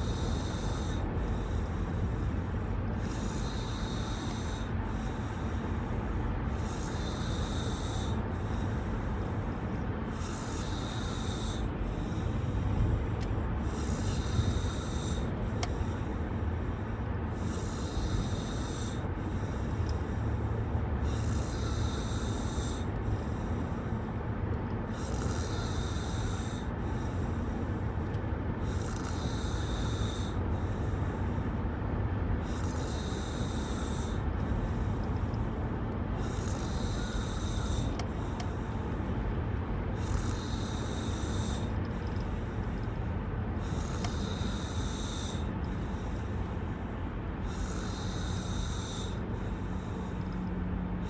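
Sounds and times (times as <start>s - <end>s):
woman snoring: 0.0s - 2.4s, 3.0s - 16.2s, 17.3s - 23.5s, 24.9s - 31.5s, 32.4s - 35.4s, 36.2s - 39.3s, 39.9s - 42.3s, 43.6s - 46.8s, 47.4s - 50.3s.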